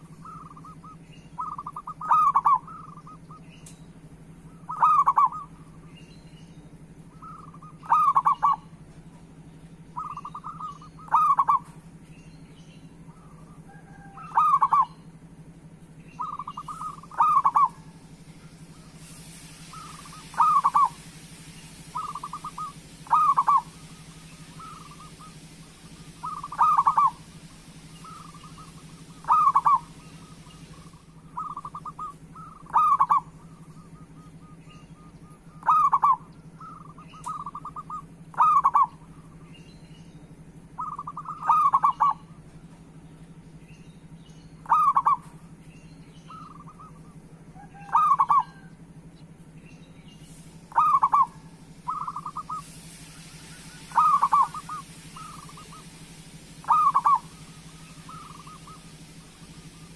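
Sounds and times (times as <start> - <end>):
doves cooing: 0.0 - 3.4, 4.2 - 5.9, 6.9 - 12.1, 12.9 - 39.4, 40.6 - 43.4, 44.6 - 45.6, 46.2 - 49.2, 50.3 - 59.9
steady low hum: 0.0 - 59.9.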